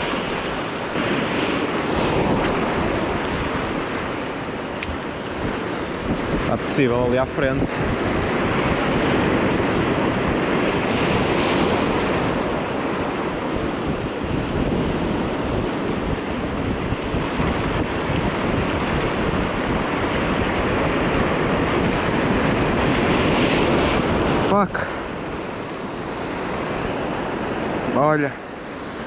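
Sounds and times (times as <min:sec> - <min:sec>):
surf breaking over rocks: 0:00.0 - 0:29.0
wind buffeting microphone: 0:00.0 - 0:29.0.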